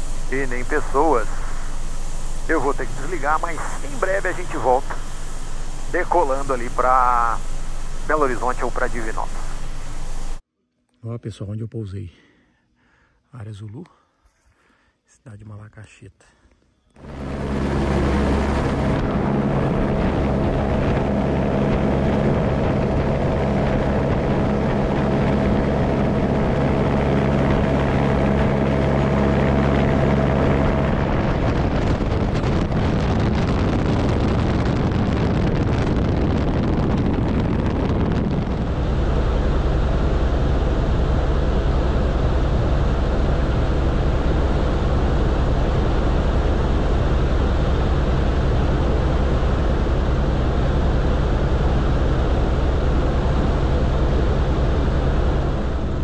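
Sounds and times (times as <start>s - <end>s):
helicopter drone inside cabin: 0.0s - 10.4s, 17.0s - 56.0s.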